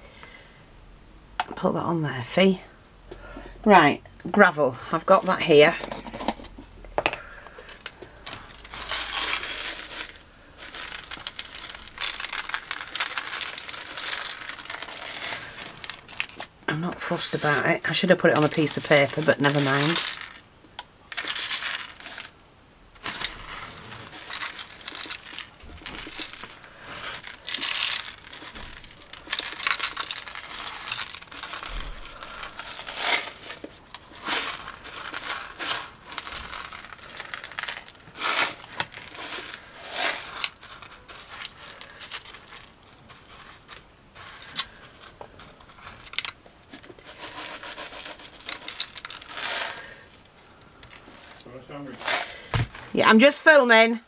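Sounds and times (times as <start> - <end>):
small stones rattling: 7.0 - 20.5, 21.1 - 22.4, 23.0 - 53.6.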